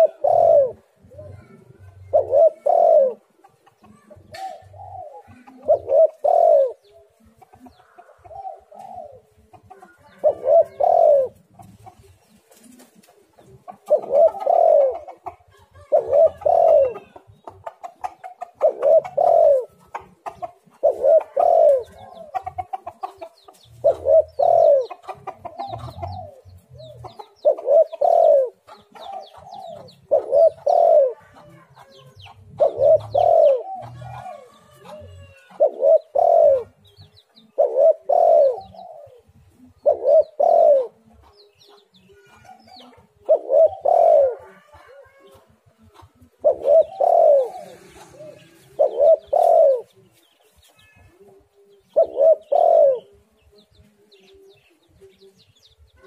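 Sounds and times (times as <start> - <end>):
dove cooing: 0.0 - 55.2.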